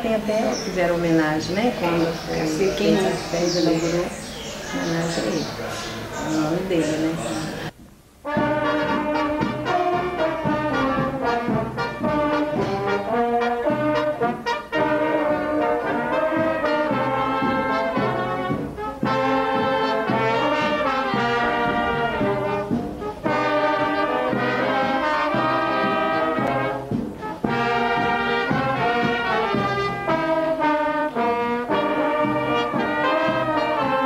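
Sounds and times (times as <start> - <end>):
brass band playing: 0.0 - 34.0.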